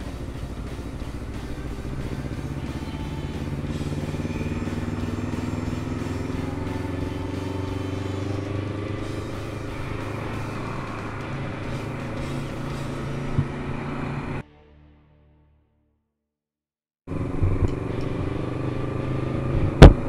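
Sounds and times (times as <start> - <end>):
motorcycle engine accelerating: 0.0 - 14.5, 17.1 - 20.0.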